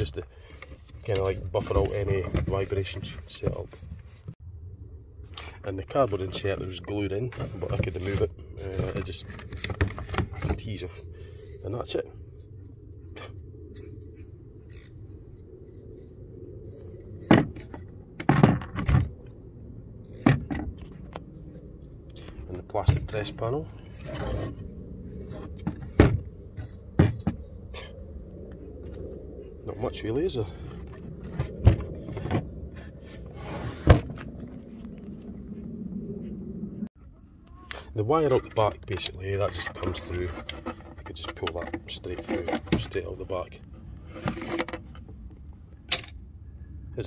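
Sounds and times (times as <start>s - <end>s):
steady low hum: 0.0s - 41.1s.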